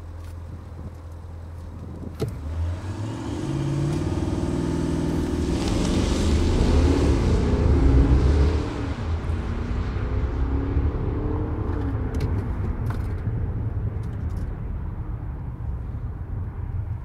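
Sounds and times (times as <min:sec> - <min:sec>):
diesel engine idling and revving: 0:00.0 - 0:16.4.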